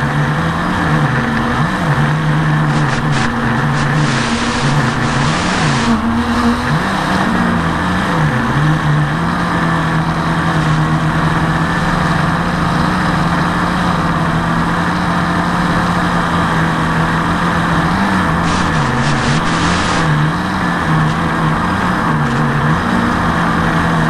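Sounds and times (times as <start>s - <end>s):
drone motors humming: 0.0s - 24.0s.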